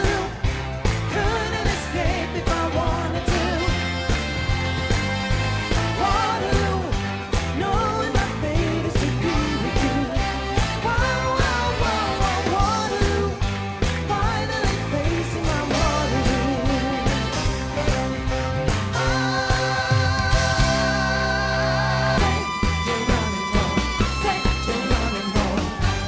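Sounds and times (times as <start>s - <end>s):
person singing: 0.0s - 4.1s, 5.8s - 26.0s
horns: 0.0s - 7.5s, 8.2s - 13.7s, 14.6s - 26.0s
live band playing: 0.0s - 26.0s.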